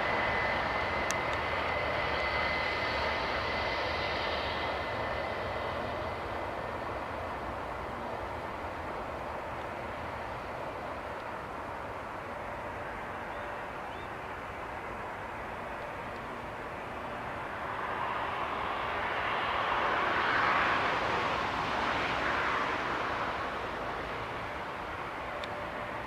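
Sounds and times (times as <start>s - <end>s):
aircraft engine rushing: 0.0s - 26.0s.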